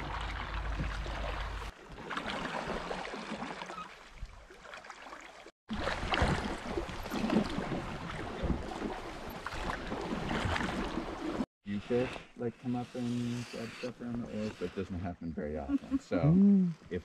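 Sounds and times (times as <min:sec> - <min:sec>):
river water lapping and splashing: 0:00.0 - 0:14.9.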